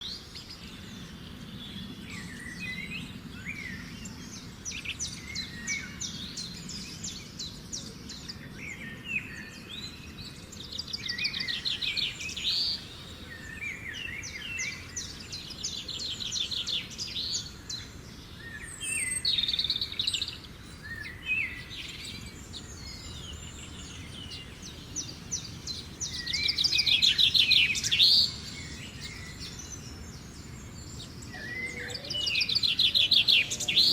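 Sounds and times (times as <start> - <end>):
birds chirping and trilling: 0.0 - 33.9.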